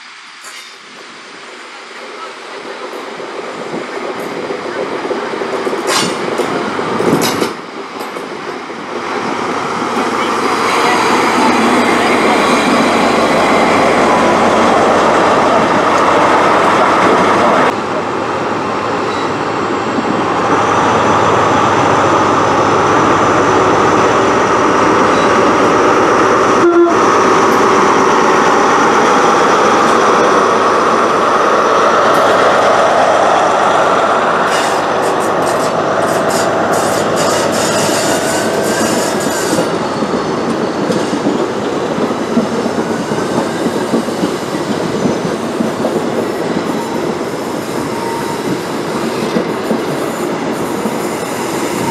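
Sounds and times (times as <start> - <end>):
diesel locomotive engine: 0.0 - 51.9
train coaches rolling on rails: 0.0 - 51.9.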